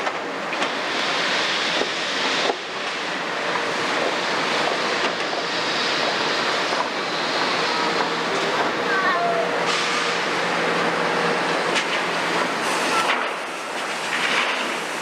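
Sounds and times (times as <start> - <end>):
excavator diesel engine running: 0.2 - 15.0.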